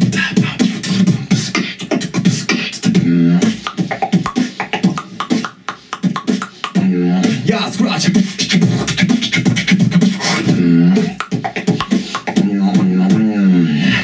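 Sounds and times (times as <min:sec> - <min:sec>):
person beatboxing: 0:00.0 - 0:14.0.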